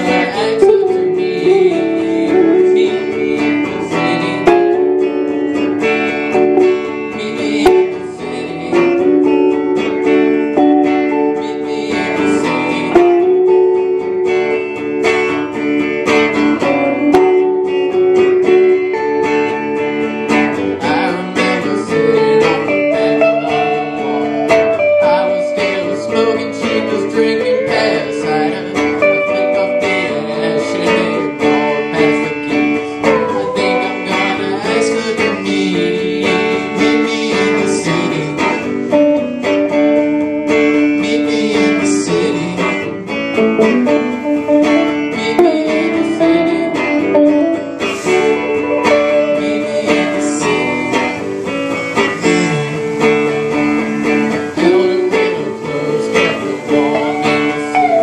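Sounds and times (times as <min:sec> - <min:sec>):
man singing: 0:00.0 - 0:14.4, 0:20.3 - 0:58.0
electric guitars playing: 0:00.0 - 0:58.0.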